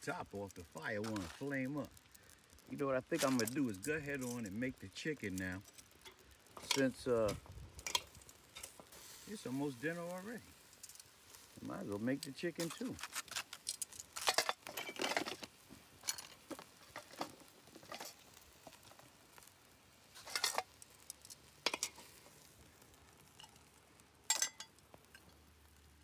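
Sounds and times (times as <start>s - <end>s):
utensil scraping grill grate: 0.0s - 25.4s.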